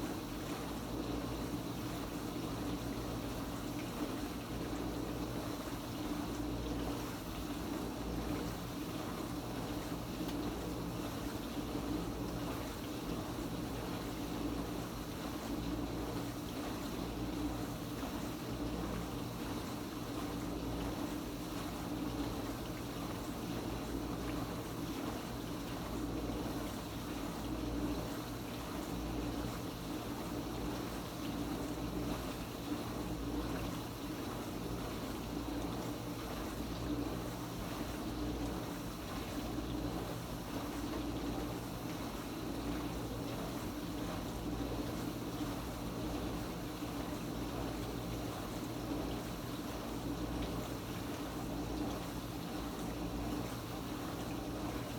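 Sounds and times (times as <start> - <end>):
dishwasher pump motor hum: 0.0 - 54.9.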